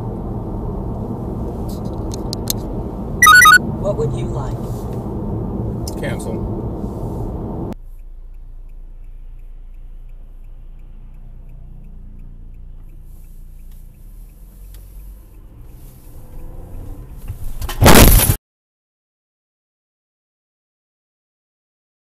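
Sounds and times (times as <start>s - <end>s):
car driving rumble from inside: 0.0s - 18.2s.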